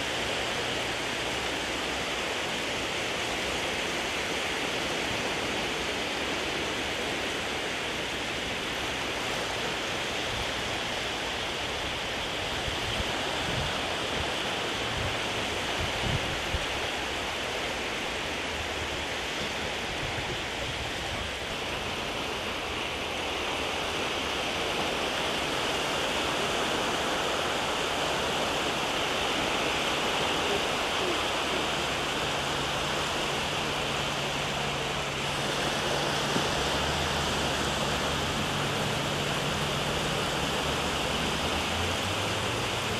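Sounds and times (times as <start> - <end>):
shallow sea water over sand: 0.0 - 42.9.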